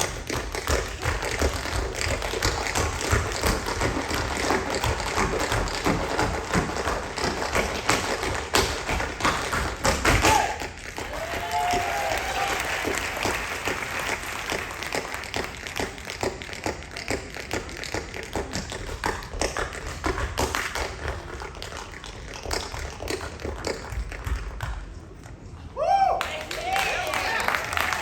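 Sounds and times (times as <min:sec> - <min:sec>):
tap shoes striking stage floor: 0:00.0 - 0:24.9.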